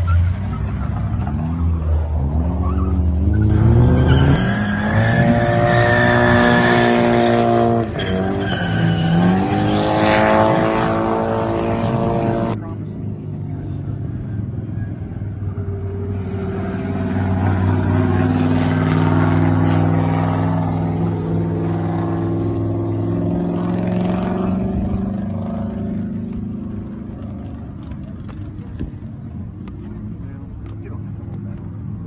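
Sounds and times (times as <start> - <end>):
car engine at high revs: 0.0 - 32.0.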